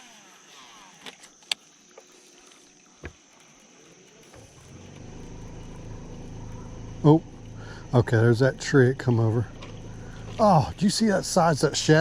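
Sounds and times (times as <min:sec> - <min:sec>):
boat motor hum: 0:00.0 - 0:12.0
faint high whine: 0:00.0 - 0:12.0.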